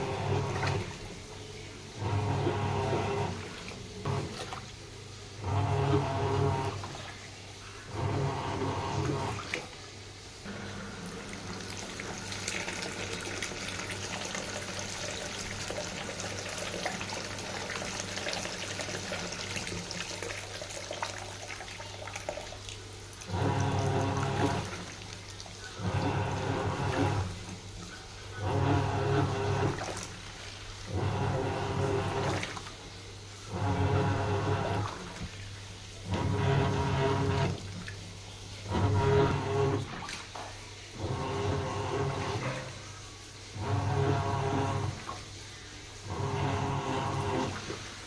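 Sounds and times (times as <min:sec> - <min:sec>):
washing machine motor pulses: 0:00.0 - 0:48.0.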